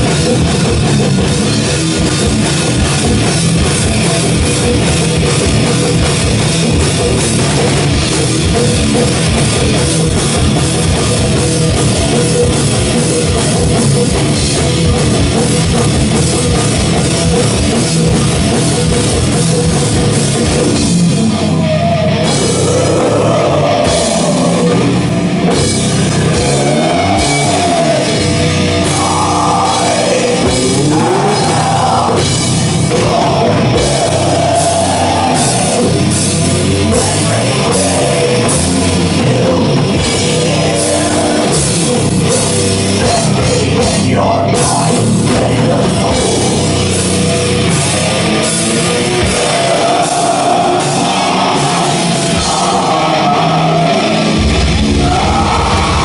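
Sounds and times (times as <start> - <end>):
heavy metal band playing: 0.0 - 56.0
sliding high pitched guitar lines: 0.0 - 56.0.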